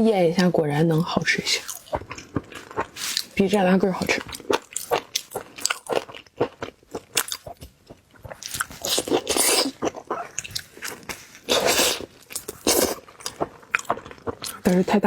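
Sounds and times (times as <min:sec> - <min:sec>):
chewing seafood: 0:00.3 - 0:15.0.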